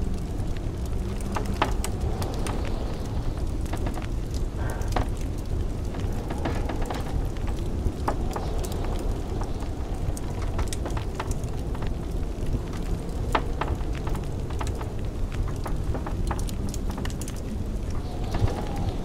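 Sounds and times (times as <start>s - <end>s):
blizzard wind rumbling: 0.0s - 19.0s
wood fire crackling: 0.0s - 19.0s.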